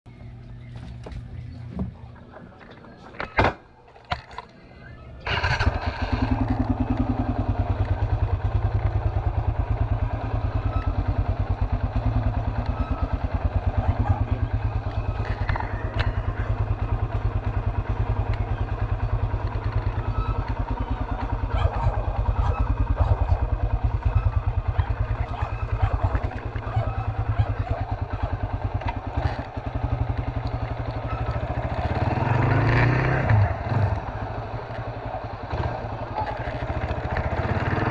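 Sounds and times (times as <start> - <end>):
motorcycle engine running: 4.8 - 37.9.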